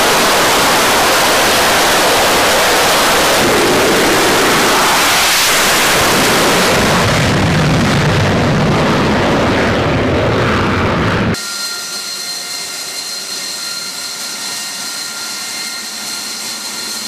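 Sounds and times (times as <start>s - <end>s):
fighter jet engine roaring: 0.0s - 17.0s.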